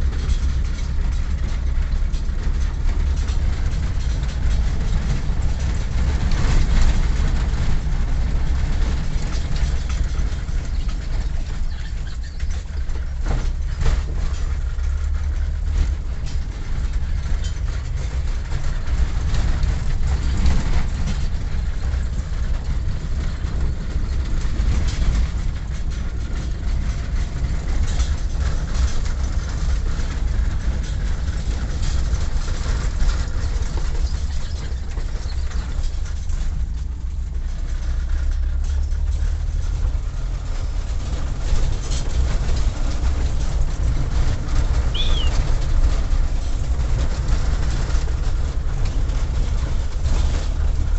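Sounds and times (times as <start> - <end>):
small knocks and rattles: 0.0 - 50.9
vehicle engine and road rumble: 0.0 - 50.9.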